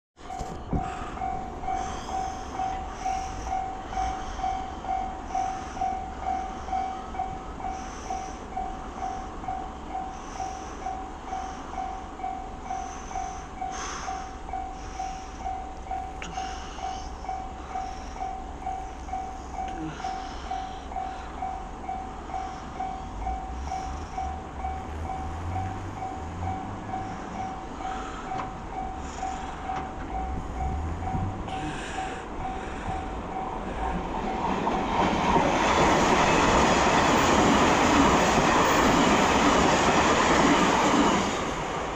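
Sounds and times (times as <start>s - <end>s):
level crossing alarm bell ringing: 0.2s - 34.8s.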